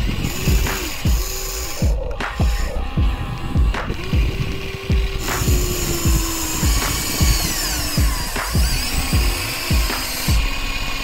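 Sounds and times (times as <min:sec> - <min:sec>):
background music with beat: 0:00.0 - 0:11.0
toy excavator motors whirring: 0:00.0 - 0:11.0.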